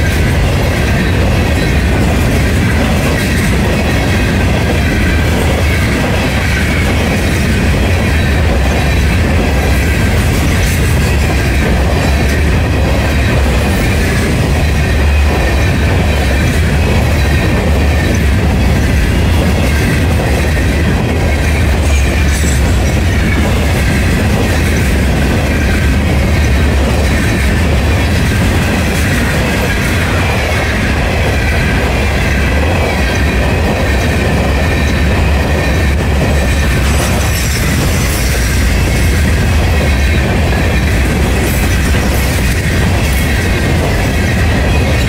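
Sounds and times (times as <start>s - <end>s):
steel wheels rumbling on rail: 0.0s - 45.0s.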